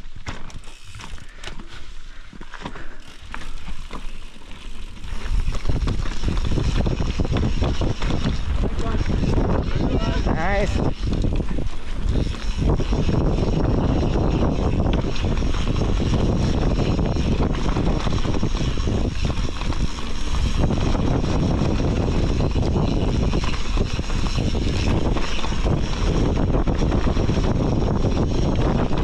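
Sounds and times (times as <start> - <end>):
bike tyres rushing over dirt: 0.0 - 29.0
wind buffeting microphone: 3.0 - 29.0.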